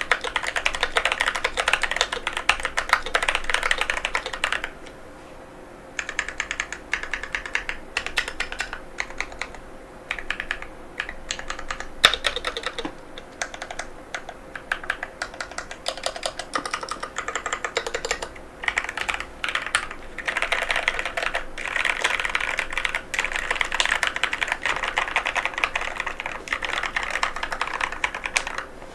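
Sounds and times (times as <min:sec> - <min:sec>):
mechanical keyboard typing: 0:00.0 - 0:04.7, 0:06.0 - 0:28.7.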